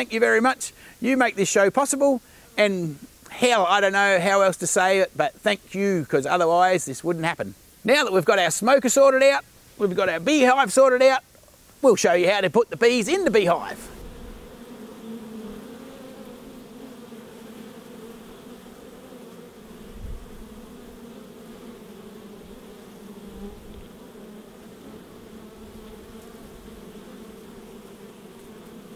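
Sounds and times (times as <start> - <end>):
honeybees buzzing: 0.0 - 11.2, 11.8 - 28.9.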